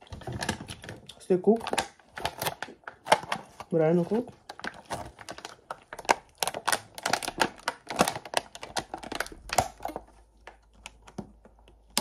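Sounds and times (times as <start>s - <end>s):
plastic container crackling: 0.0s - 12.0s.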